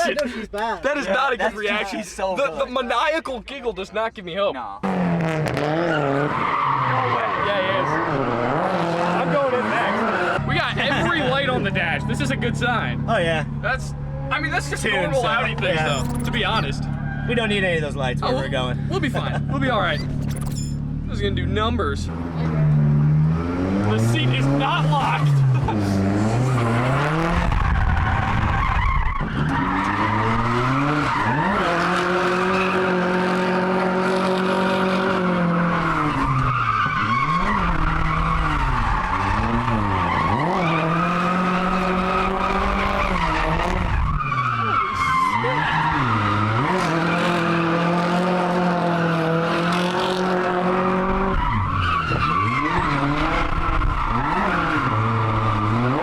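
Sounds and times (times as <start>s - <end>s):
car engine revving: 4.8s - 56.0s
tyres screeching: 4.9s - 20.9s, 22.2s - 33.2s, 35.0s - 56.0s.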